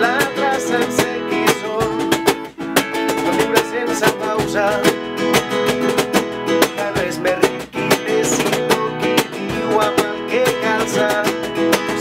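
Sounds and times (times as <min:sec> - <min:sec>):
man singing: 0:00.0 - 0:05.4, 0:06.5 - 0:12.0
acoustic guitar strumming: 0:00.0 - 0:12.0.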